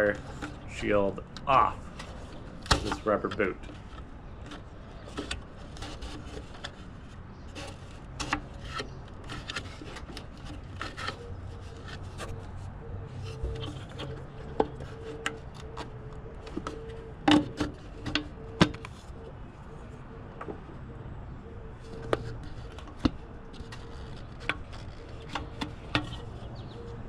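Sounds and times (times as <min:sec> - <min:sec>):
hands rubbing rubber and plastic: 0:01.9 - 0:19.2, 0:21.8 - 0:26.7.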